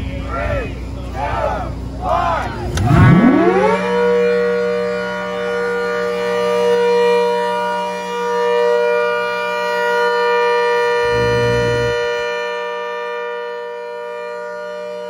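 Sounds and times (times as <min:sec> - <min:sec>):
rotating siren wailing: 0:01.1 - 0:15.0.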